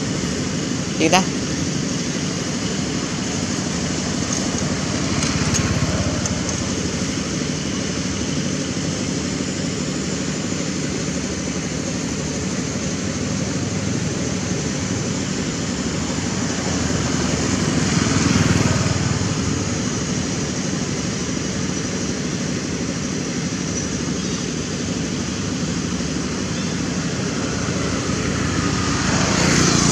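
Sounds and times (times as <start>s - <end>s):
motorbike traffic rumble: 0.0s - 29.9s.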